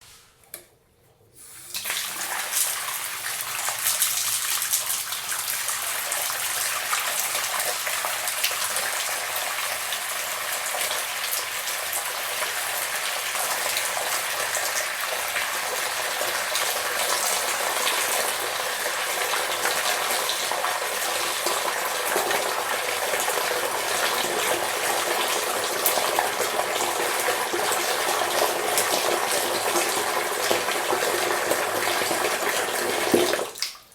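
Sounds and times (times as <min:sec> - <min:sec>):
water running from tap: 0:01.4 - 0:33.9.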